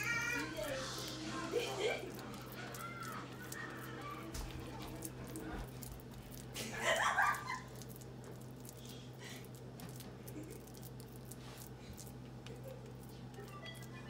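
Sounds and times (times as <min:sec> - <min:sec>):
spatula scraping filling: 0:00.0 - 0:14.0
steady low hum: 0:00.0 - 0:14.0.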